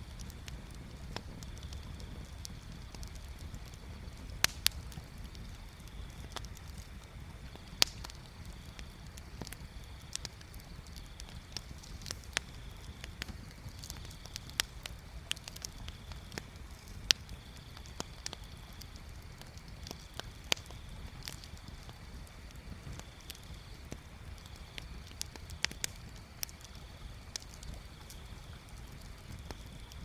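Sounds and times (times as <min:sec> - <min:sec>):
bonfire crackling: 0:00.0 - 0:30.0.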